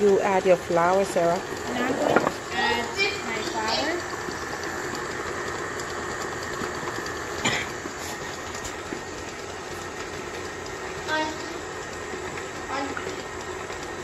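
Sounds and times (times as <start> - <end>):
stand mixer motor whining: 0.0 - 14.0.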